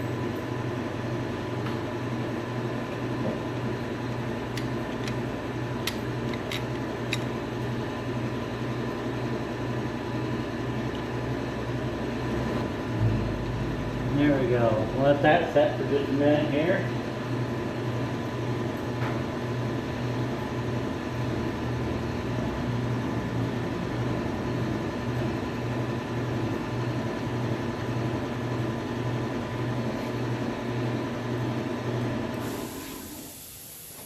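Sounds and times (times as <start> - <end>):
mechanical hum with low throb: 0.0 - 34.0.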